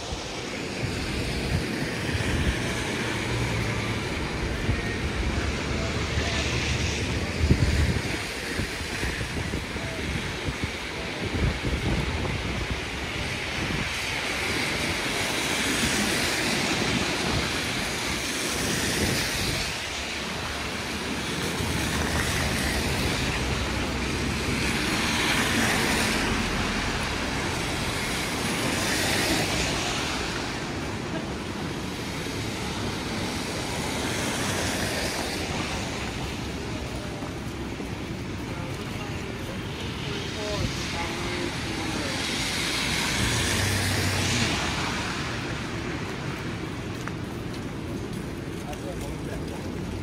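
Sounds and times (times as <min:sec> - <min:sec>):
low traffic rumble: 0:00.0 - 0:50.0
vehicles passing: 0:00.0 - 0:50.0.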